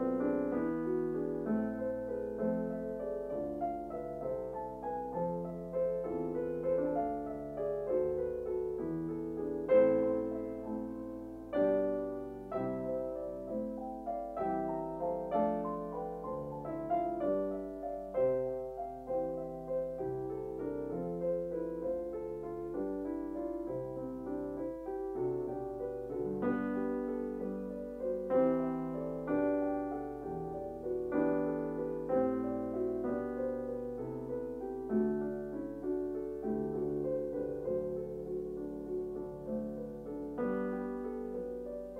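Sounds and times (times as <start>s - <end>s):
piano music: 0.0s - 41.9s.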